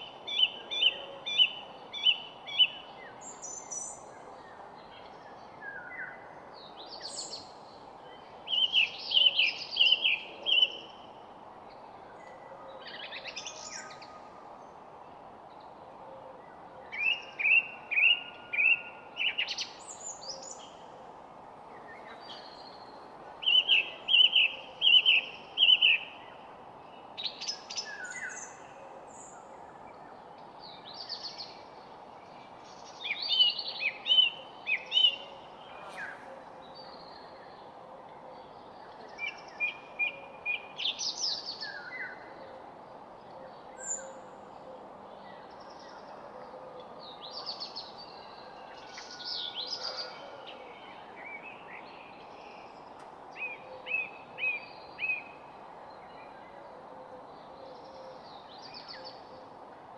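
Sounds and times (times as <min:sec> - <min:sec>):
low background hiss: 0:00.0 - 0:59.9
songbird singing: 0:00.0 - 0:59.9.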